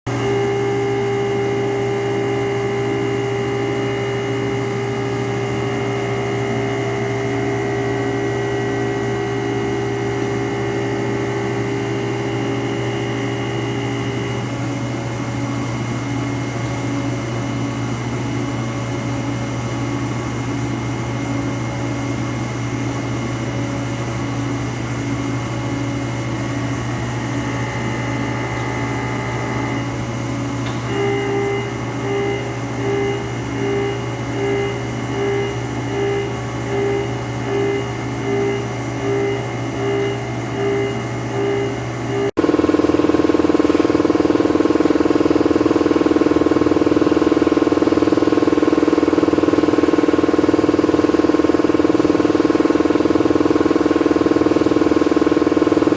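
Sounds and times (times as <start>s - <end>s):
machining center hum and whine: 0.1s - 55.9s.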